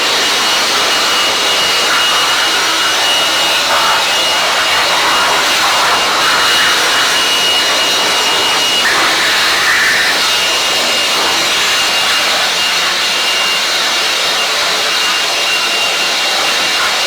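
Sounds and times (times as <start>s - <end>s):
high-pressure water jet hissing: 0.0s - 17.0s.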